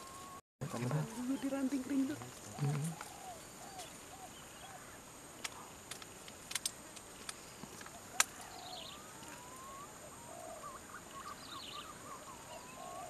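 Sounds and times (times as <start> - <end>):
birds chirping: 0.0 - 5.8, 7.1 - 13.0.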